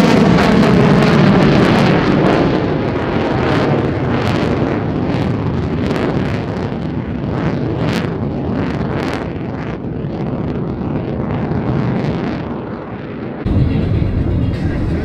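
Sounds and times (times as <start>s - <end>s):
jet engine roaring with crackles: 0.0s - 15.0s.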